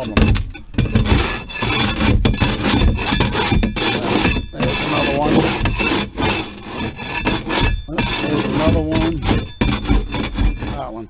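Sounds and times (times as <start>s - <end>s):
steel blade scraping floor: 0.8s - 10.9s.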